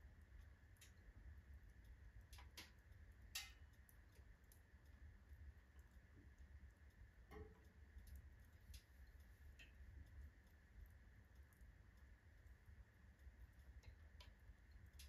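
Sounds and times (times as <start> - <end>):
wood fire crackling in a stove: 0.0 - 15.0.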